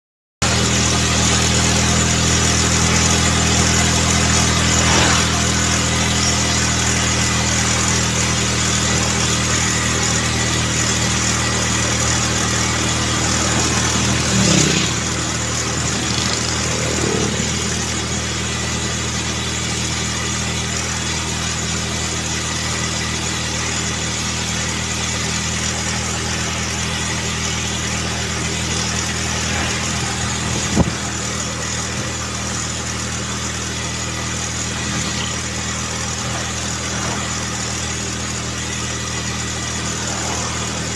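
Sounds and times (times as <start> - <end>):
vehicle engine drone: 0.4 - 40.9
road and wind noise: 0.8 - 21.3, 24.7 - 40.9
vehicles passing by: 1.0 - 20.9, 25.2 - 40.9.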